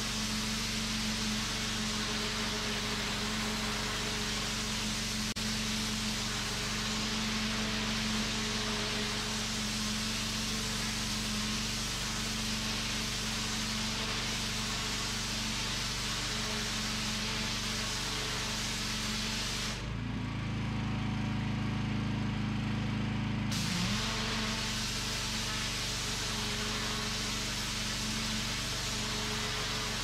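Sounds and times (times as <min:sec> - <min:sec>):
pressure washer engine hum: 0:00.0 - 0:16.0, 0:20.4 - 0:30.0
water spraying onto concrete: 0:00.0 - 0:19.9, 0:23.5 - 0:30.0.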